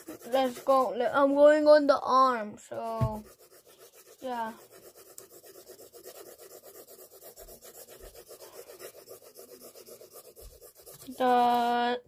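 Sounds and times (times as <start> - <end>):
pencil shading on paper: 0.0 - 12.0.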